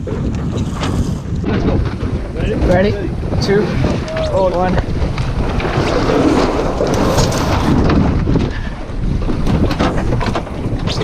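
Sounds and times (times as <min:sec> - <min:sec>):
water rushing along hull: 0:00.0 - 0:11.0
wind rumbling on microphone: 0:00.0 - 0:11.0.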